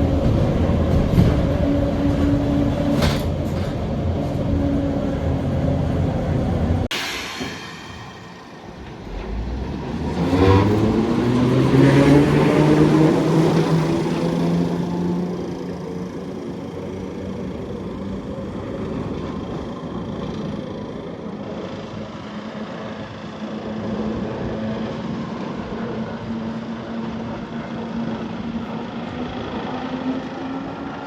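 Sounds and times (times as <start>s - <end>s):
tram rumbling: 0.0s - 31.0s.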